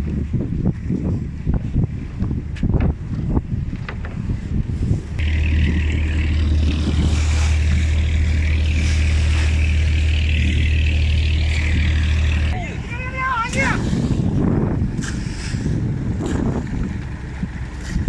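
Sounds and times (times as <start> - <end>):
wind buffeting microphone: 0.0 - 18.0
boat engine drone: 1.2 - 18.0.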